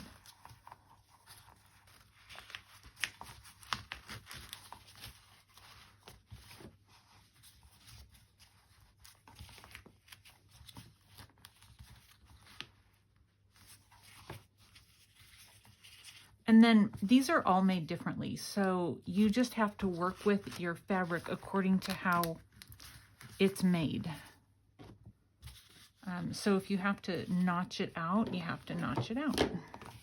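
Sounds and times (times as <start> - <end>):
fabric and paper rustling: 0.0 - 30.0.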